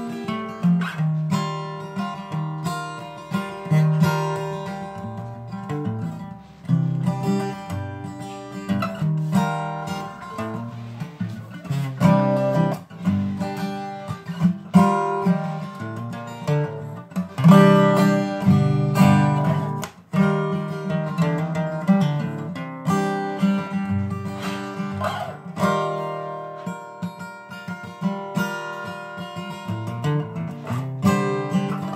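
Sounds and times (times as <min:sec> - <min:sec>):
acoustic guitar: 0:00.0 - 0:31.9.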